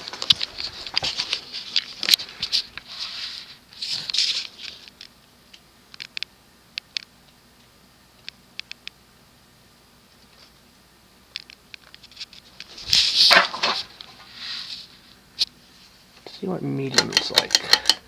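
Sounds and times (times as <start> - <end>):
ceiling fan motor humming: 0.0 - 18.0.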